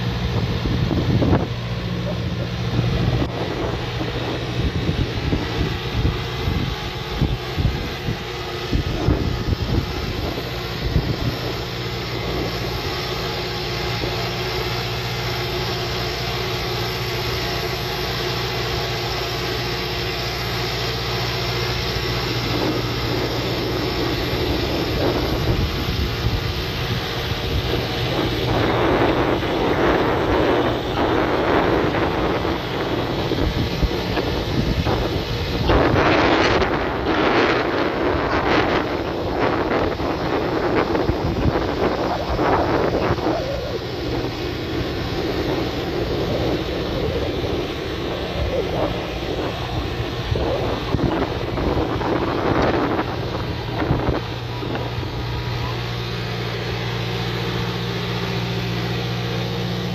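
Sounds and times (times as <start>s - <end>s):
tractor diesel engine running: 0.0s - 59.9s
wind buffeting microphone: 0.0s - 59.9s.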